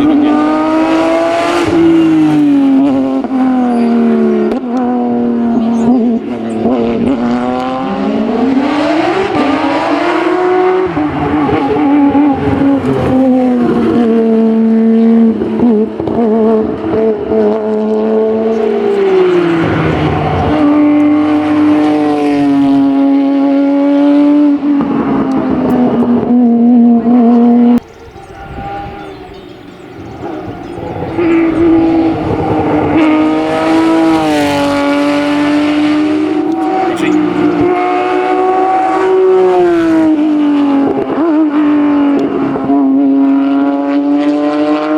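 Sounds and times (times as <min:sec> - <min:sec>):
racing car engine at full throttle: 0:00.0 - 0:44.9.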